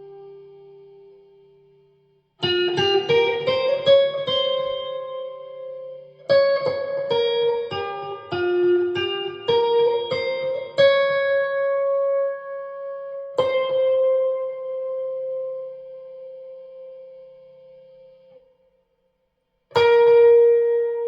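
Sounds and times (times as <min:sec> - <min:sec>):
electric guitar notes: 0:00.0 - 0:18.4, 0:19.8 - 0:21.0.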